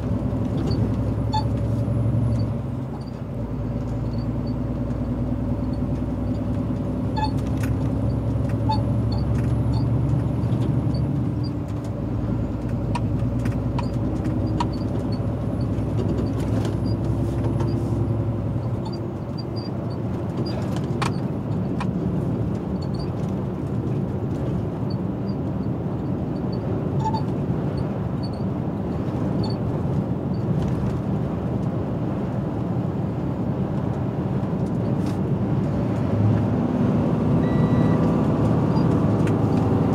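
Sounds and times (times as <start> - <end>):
road and tyre noise: 0.0 - 39.9
truck diesel engine hum: 0.0 - 39.9.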